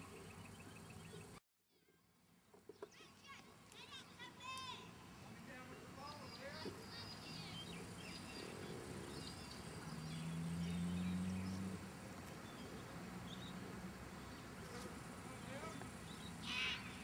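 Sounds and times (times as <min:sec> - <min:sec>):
birds chirping: 0:00.0 - 0:01.4, 0:02.7 - 0:17.0.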